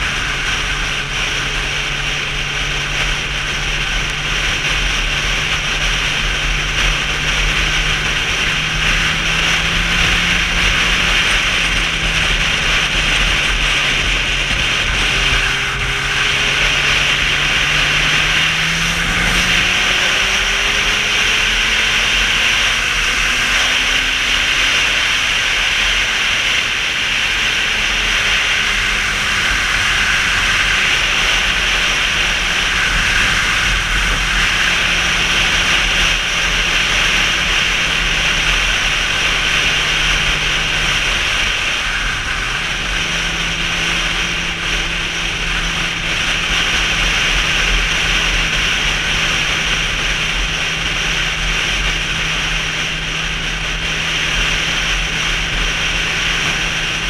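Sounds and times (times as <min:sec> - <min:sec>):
motorcycle engine hum: 0:00.0 - 0:57.0
road noise: 0:00.0 - 0:57.0
rushing wind: 0:00.0 - 0:57.0.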